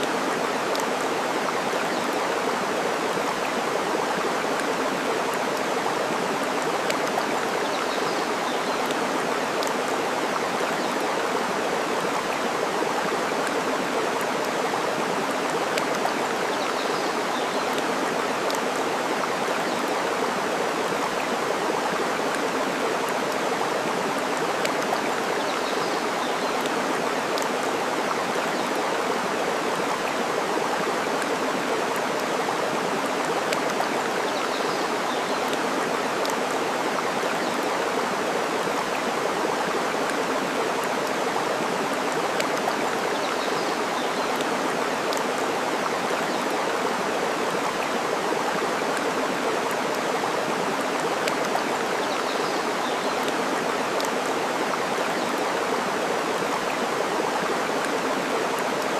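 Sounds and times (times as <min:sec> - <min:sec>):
stream rushing water: 0:00.0 - 0:58.9.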